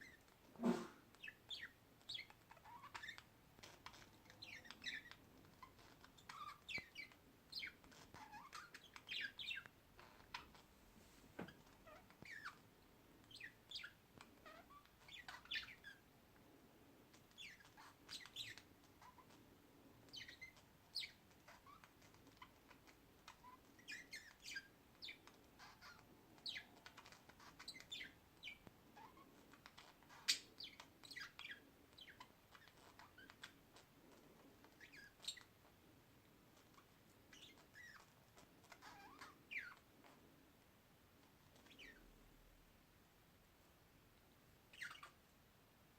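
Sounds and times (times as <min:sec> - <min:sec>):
birds chirping: 0:00.0 - 0:10.7, 0:11.5 - 0:16.1, 0:17.1 - 0:35.6, 0:36.6 - 0:40.2, 0:41.5 - 0:42.1, 0:44.7 - 0:45.2.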